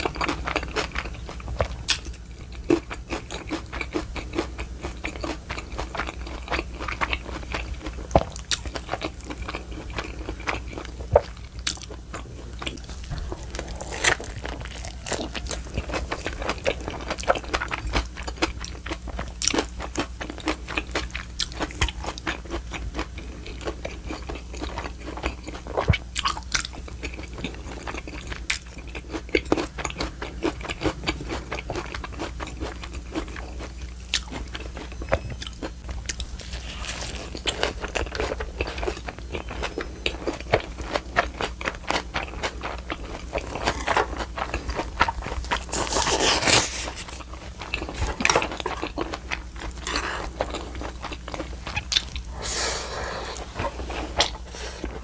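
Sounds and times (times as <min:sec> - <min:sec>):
close chewing and crunching: 0:00.0 - 0:55.0.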